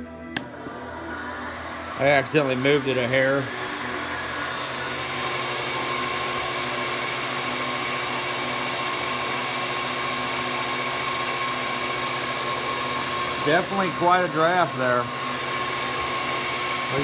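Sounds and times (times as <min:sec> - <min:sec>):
electric blower rushing air: 0:00.4 - 0:17.0.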